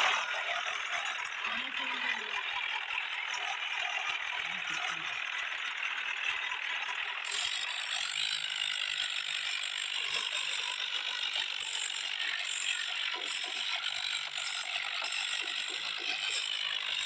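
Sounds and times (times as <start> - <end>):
fast ratcheting clatter: 0.0 - 17.0.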